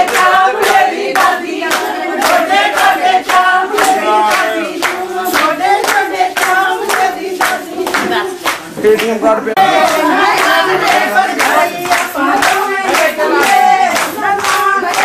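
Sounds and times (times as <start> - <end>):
women singing: 0.0 - 8.7, 9.6 - 15.0
women clapping in rhythm: 0.0 - 15.0.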